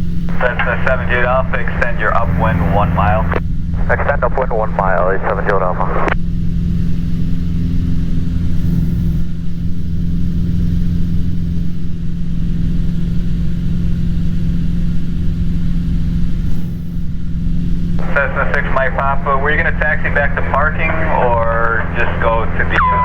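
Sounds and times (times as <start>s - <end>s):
airplane engine drone: 0.0s - 23.0s.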